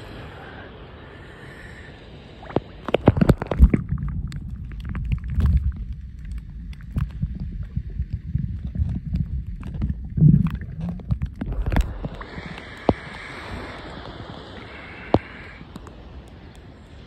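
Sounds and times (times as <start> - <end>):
muffled underwater rumbling: 2.3 - 16.0
water lapping and dripping: 2.3 - 17.0
clicks of moving water: 2.4 - 16.7.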